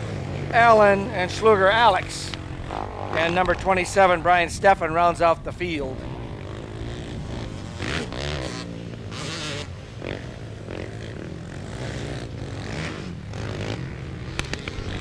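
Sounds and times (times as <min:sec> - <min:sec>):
quad engines revving: 0:00.0 - 0:15.0.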